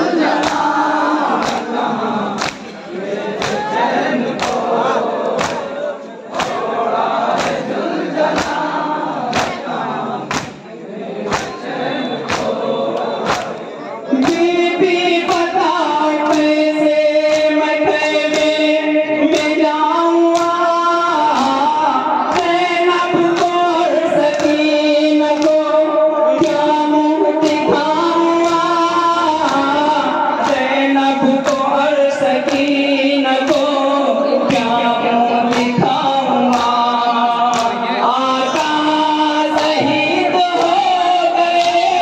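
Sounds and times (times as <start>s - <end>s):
men chanting in unison: 0.0s - 42.0s
rhythmic chest-beating: 0.0s - 42.0s.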